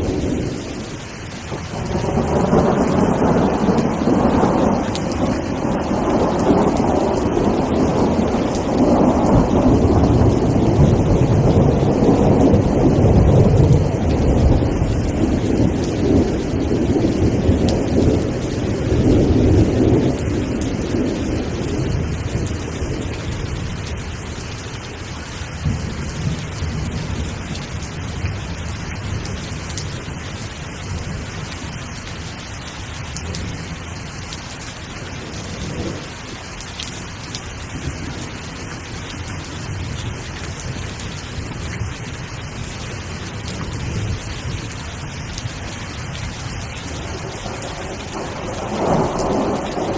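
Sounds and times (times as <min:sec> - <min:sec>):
thunder rumbling: 0:00.0 - 0:30.2, 0:37.2 - 0:49.9
steady rain falling: 0:00.0 - 0:49.9.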